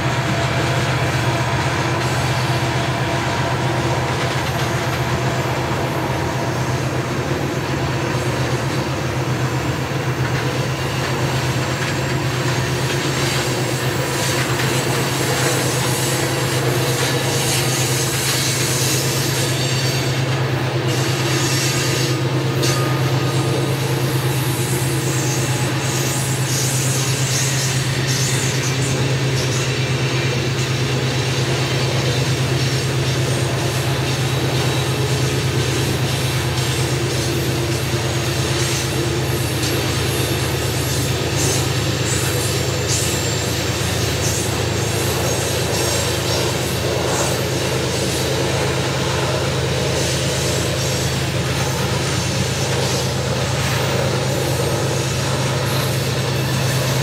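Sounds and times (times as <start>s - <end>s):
diesel locomotive drone: 0.0s - 57.0s
train wheels rumbling on rail: 0.0s - 57.0s
wheel flange squeal: 0.0s - 57.0s.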